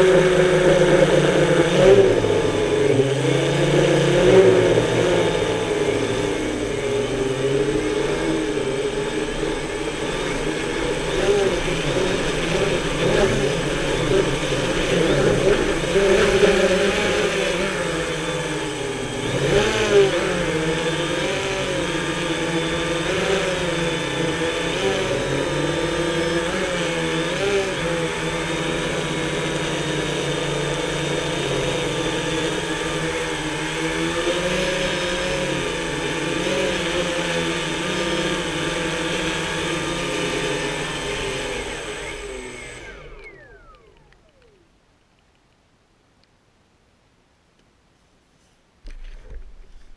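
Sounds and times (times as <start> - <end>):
drone motors whirring: 0.0 - 44.8
motors spinning down whine: 0.0 - 45.0.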